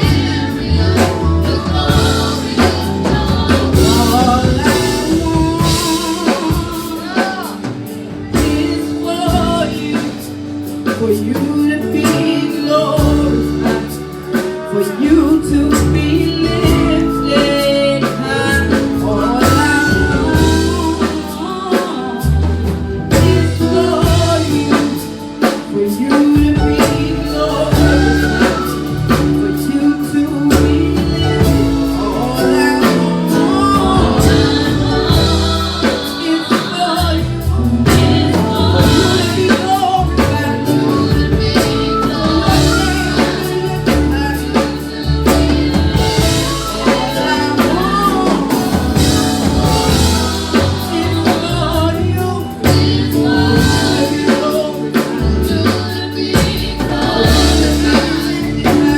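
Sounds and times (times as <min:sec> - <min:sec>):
bass: 0:00.0 - 0:58.9
drum kit: 0:00.0 - 0:58.9
gospel singing: 0:00.0 - 0:58.9
keyboard: 0:00.0 - 0:58.9.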